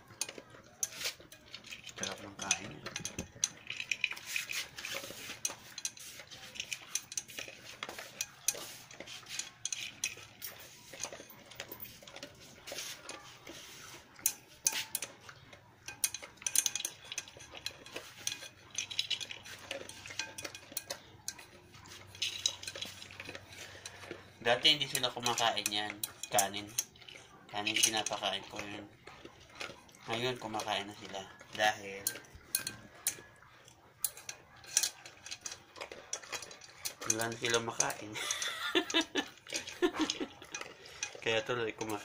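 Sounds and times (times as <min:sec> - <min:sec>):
collar and food clinking on metal pot: 0:00.0 - 0:42.0
dog crunching dry kibble: 0:00.0 - 0:42.0.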